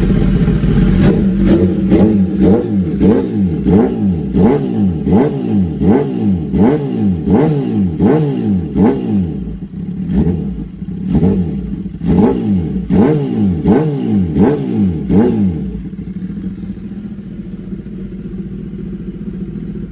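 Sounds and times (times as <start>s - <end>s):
motorcycle engine idling: 0.0s - 19.9s
motorcycle engine revving: 0.0s - 19.9s.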